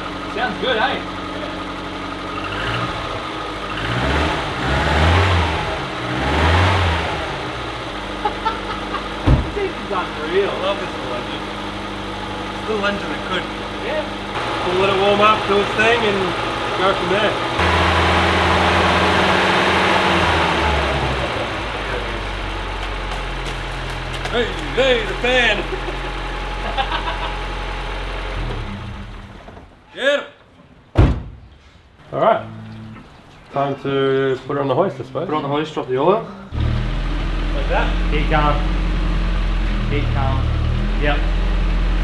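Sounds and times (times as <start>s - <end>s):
car engine revving: 0.0s - 29.5s, 32.0s - 42.0s.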